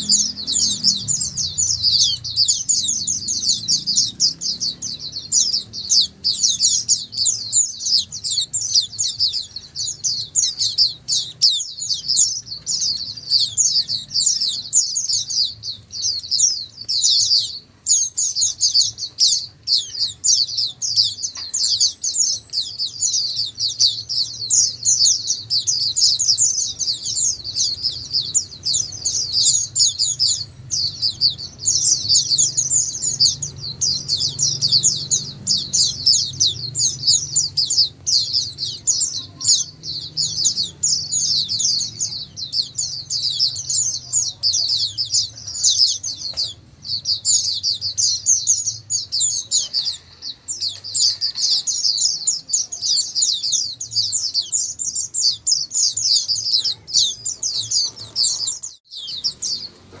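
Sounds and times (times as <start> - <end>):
birds chirping in chorus: 0.0 - 60.0.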